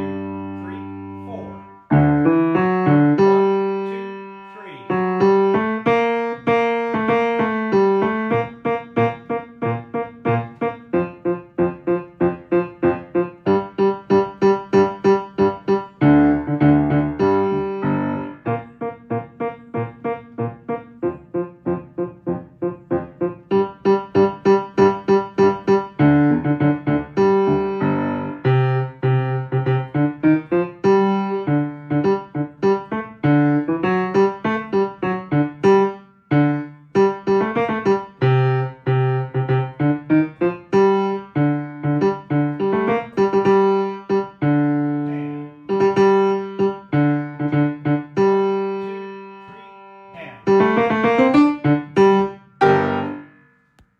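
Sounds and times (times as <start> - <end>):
piano playing notes and chords: 0.0 - 53.9.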